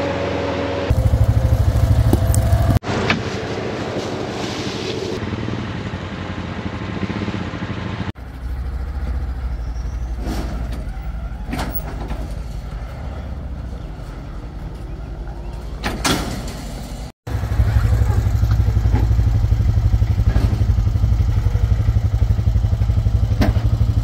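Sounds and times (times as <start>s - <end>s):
off-road vehicle engines running: 0.0s - 24.0s.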